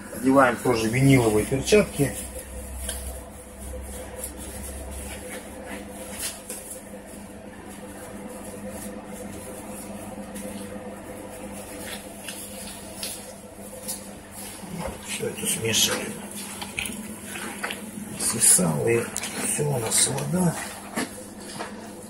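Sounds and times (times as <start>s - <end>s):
steady hum: 0.0s - 22.0s
vinyl gloves crinkling: 0.1s - 22.0s.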